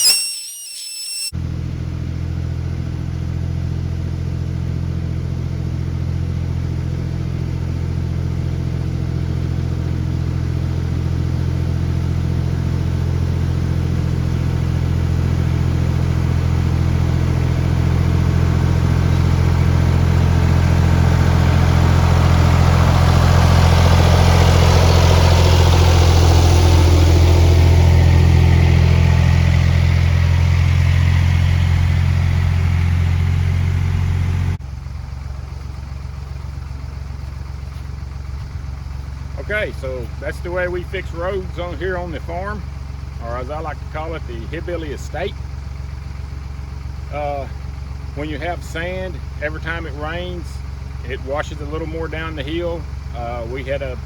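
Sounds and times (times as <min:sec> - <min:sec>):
tractor engine running under load: 0:01.9 - 0:54.0.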